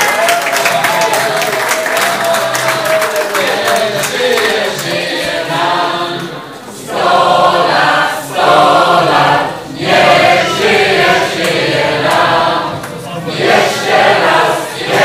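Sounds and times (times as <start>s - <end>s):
crowd singing: 0.6s - 15.0s.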